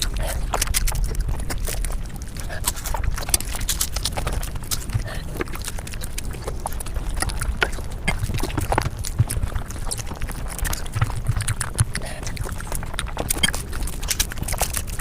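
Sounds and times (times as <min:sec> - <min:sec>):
chewing and crunching: 0:00.0 - 0:15.0.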